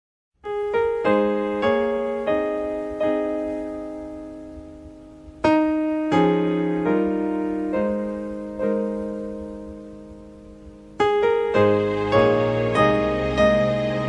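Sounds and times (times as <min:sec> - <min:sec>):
piano chords: 0:00.4 - 0:14.0.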